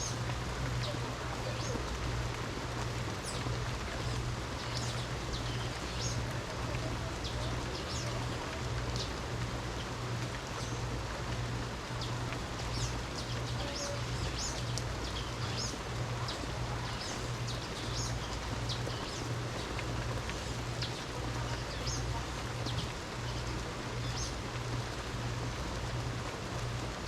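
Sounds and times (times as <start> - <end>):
rain hiss: 0.0 - 27.0.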